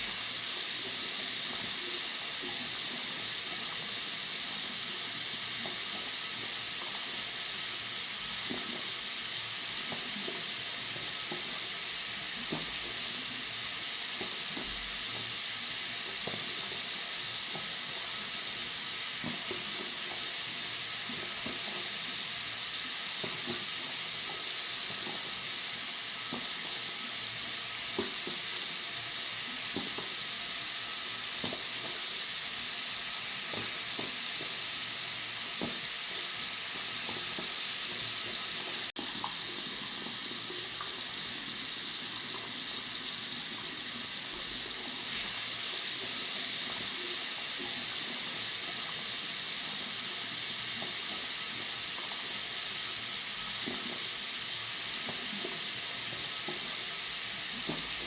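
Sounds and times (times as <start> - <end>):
tap water running into a sink: 0.0 - 58.0.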